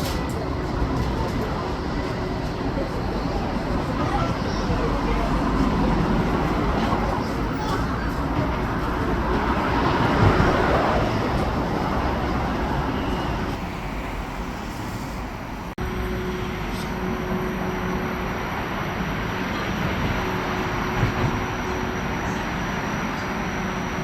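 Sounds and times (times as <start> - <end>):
tram rumbling and rolling: 0.0 - 24.0.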